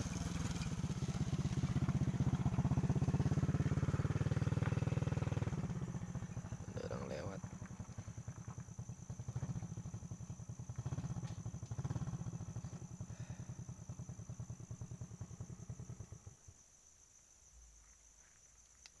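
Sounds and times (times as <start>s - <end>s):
motorcycle engine running: 0.0s - 16.4s
insect trill: 0.0s - 19.0s.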